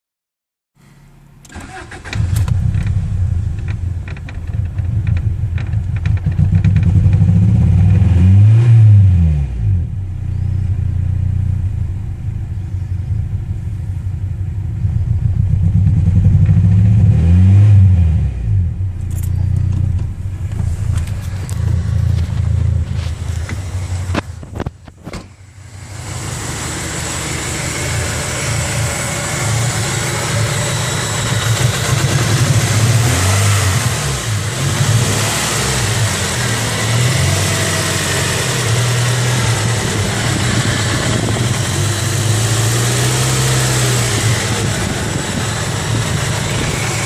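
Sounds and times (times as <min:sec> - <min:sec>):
car engine misfiring and revving: 0:01.4 - 0:47.0.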